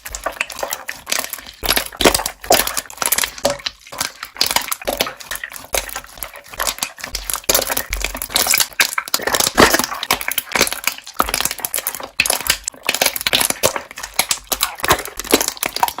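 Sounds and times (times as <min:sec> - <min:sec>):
air bubbles popping: 0:00.0 - 0:16.0
slime squished by hand: 0:00.0 - 0:16.0.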